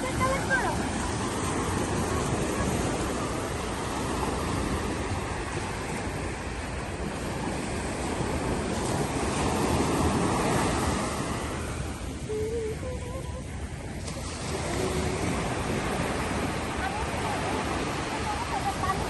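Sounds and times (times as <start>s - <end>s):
sea waves washing: 0.0s - 19.0s
wind buffeting microphone: 0.0s - 19.0s.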